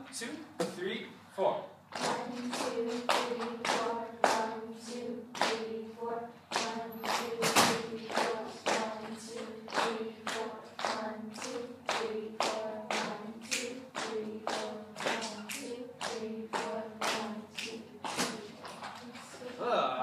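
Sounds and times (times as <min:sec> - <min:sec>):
students patting a rhythm: 0:01.9 - 0:19.7.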